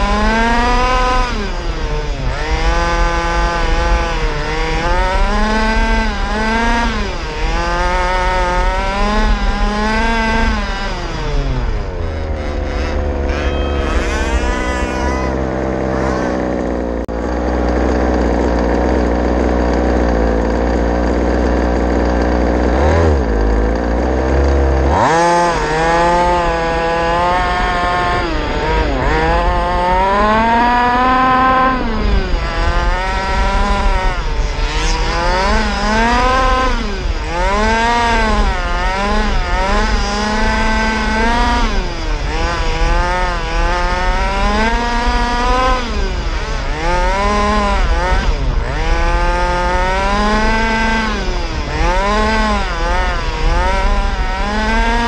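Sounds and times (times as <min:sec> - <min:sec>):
rc car motor whining: 0:00.0 - 0:55.0.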